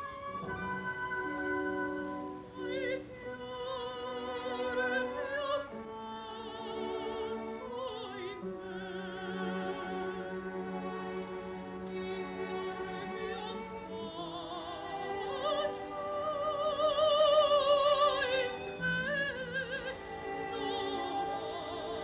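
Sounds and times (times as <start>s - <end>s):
orchestra strings sustaining chords: 0.0s - 22.0s
soprano singing with vibrato: 0.0s - 22.0s.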